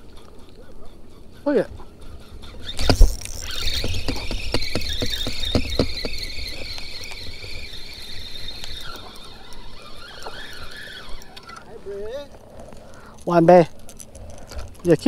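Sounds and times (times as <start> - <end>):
fishing reel gear whine: 2.0 - 15.0
reel clicks: 2.4 - 15.0.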